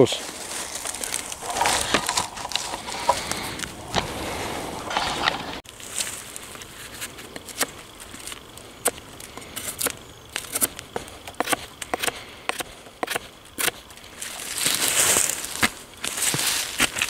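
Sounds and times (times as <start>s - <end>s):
stick scraping soil: 0.2s - 17.0s.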